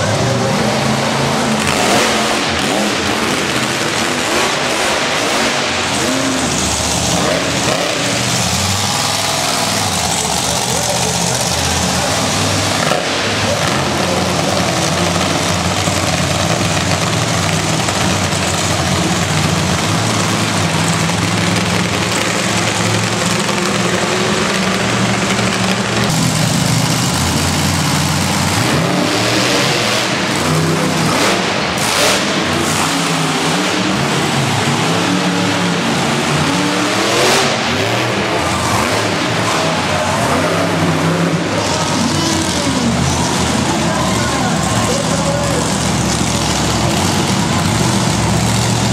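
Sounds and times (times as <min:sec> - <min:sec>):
monster truck engines revving: 0:00.0 - 0:48.9.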